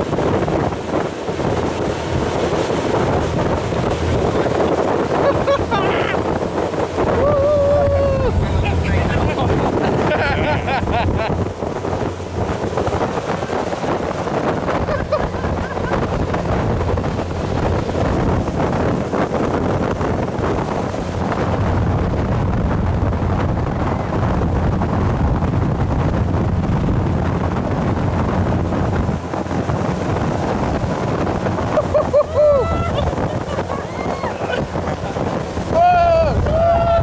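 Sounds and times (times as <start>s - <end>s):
boat engines droning: 0.0s - 37.0s
rush of churning wake: 0.0s - 37.0s
wind buffeting microphone: 0.0s - 37.0s.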